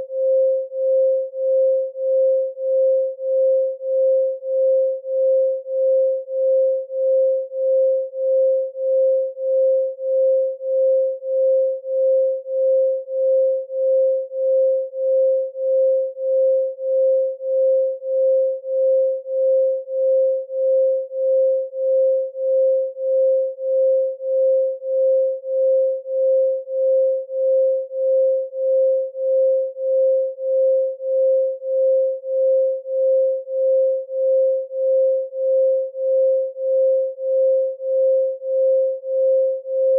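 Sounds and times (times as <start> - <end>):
pulsing electronic sine tone: 0.0 - 39.9.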